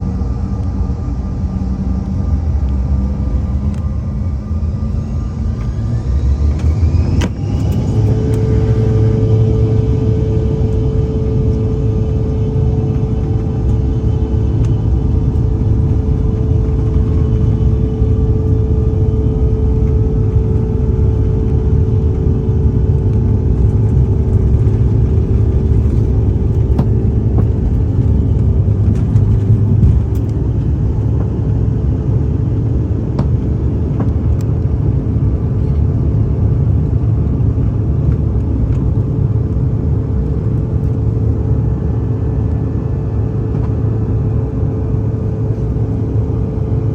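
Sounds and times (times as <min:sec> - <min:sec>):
jet engines buzzsaw drone: 0:00.0 - 0:46.9.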